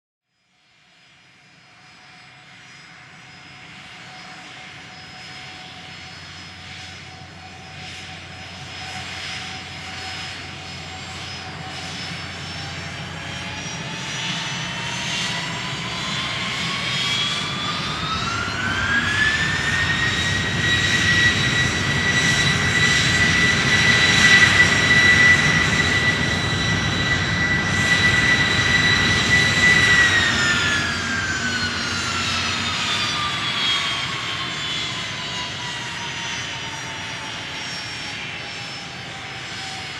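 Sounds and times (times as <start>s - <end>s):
jet engines whining: 1.8s - 39.9s
rushing jet noise: 6.4s - 39.9s.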